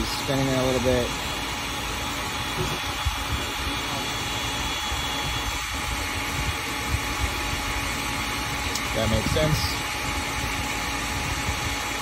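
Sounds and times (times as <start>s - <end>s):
heat gun fan blowing: 0.0s - 12.0s.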